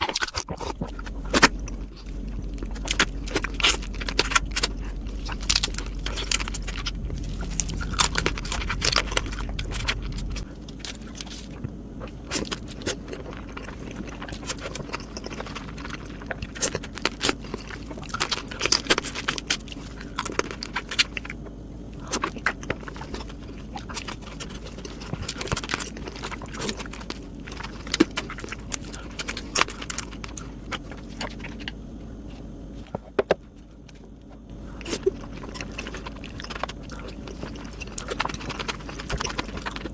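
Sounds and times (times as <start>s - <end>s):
crab shells cracking: 0.0s - 31.8s, 34.8s - 39.9s
chewing: 0.0s - 39.9s.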